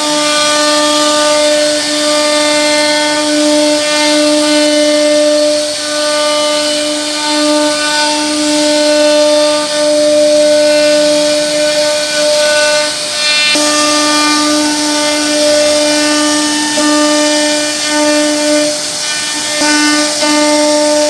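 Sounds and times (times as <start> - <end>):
router spindle whining: 0.0 - 21.0
wood cutting noise: 0.0 - 21.0.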